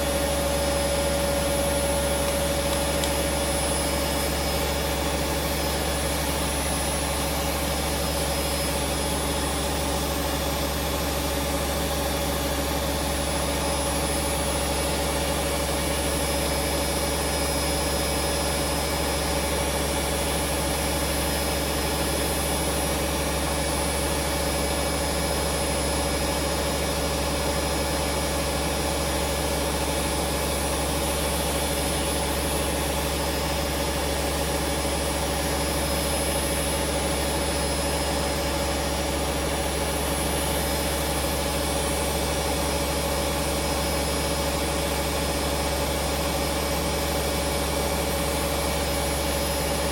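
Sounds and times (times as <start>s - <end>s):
washing machine spinning: 0.0s - 49.9s.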